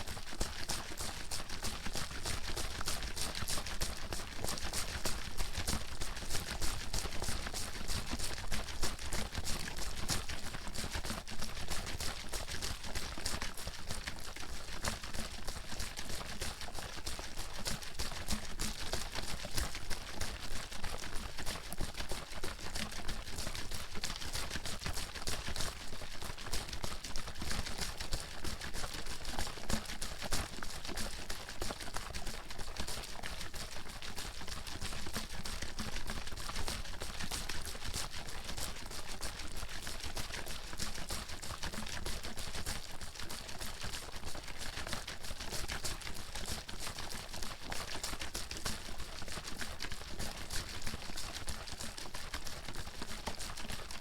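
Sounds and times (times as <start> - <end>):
water sloshing in a shaken bottle: 0.0 - 54.0.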